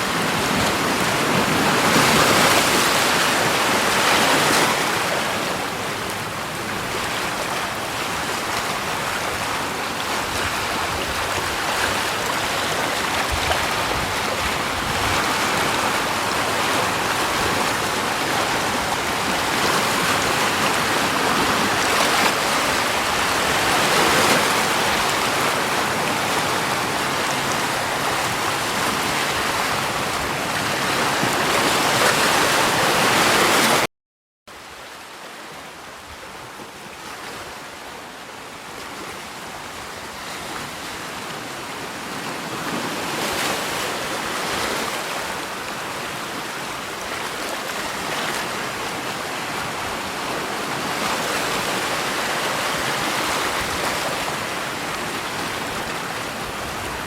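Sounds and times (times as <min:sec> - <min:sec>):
running water rushing: 0:00.0 - 0:33.9, 0:37.4 - 0:57.0.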